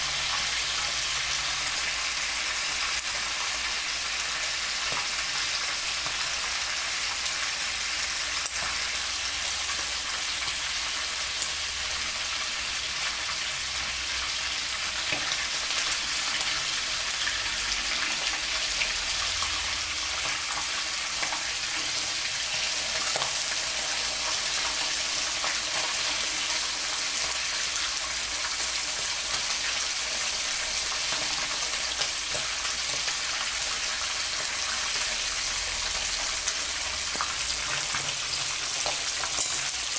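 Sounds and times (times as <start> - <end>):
meat deep-frying in hot oil: 0.0 - 39.9.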